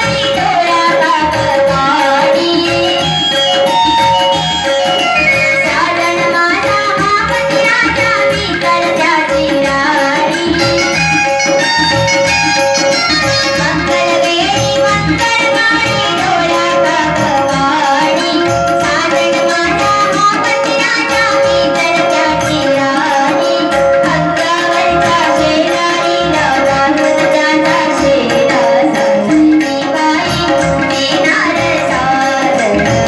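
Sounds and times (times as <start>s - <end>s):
hand drum: 0.0s - 33.0s
harmonium: 0.0s - 33.0s
woman singing: 0.0s - 33.0s.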